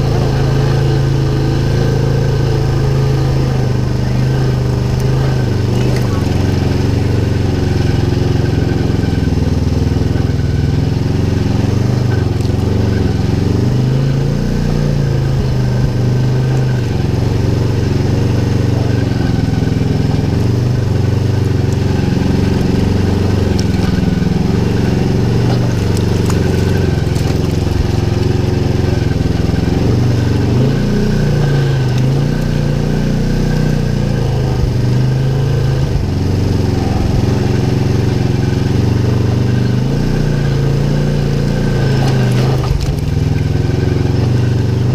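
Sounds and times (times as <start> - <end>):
engine revving: 0.0 - 44.9.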